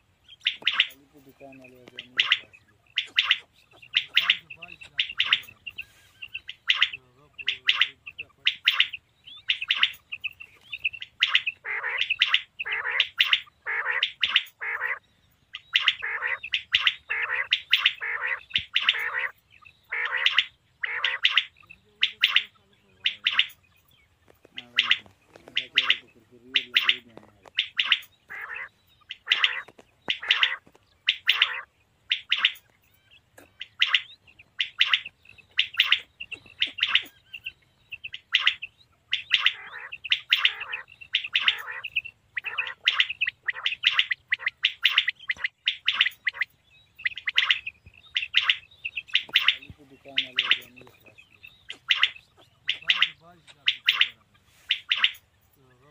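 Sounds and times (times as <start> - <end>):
quail calling: 0.0 - 55.9.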